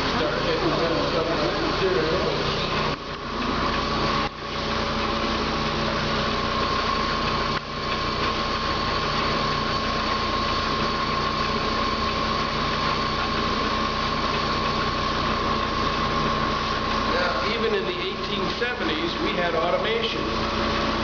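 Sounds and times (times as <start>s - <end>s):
belt-driven machinery running: 0.0s - 21.0s
metal lathe turning: 0.0s - 21.0s.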